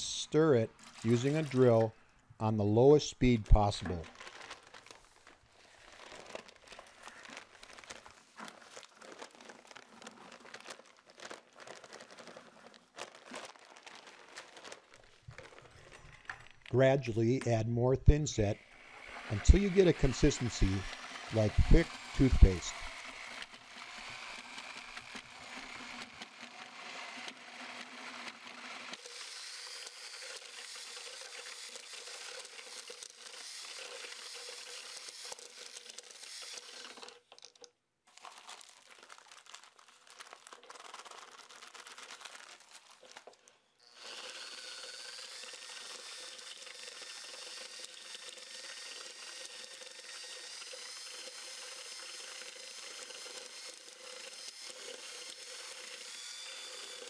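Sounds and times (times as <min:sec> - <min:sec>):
drill mixing mortar: 0:00.4 - 0:02.0, 0:03.5 - 0:16.8, 0:18.4 - 0:39.4, 0:40.1 - 0:57.0.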